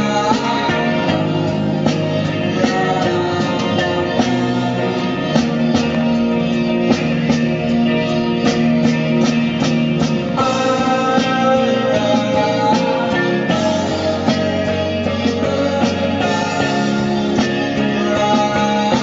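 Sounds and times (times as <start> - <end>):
rock song with guitar and drums: 0.0 - 19.0.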